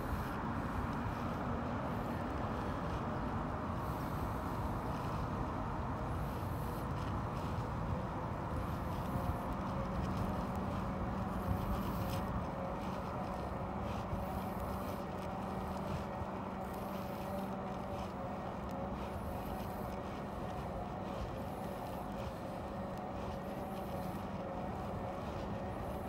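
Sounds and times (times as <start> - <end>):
electric motor hum: 0.0 - 26.0
tyre noise on pavement: 0.0 - 26.0
wind on microphone: 0.0 - 26.0.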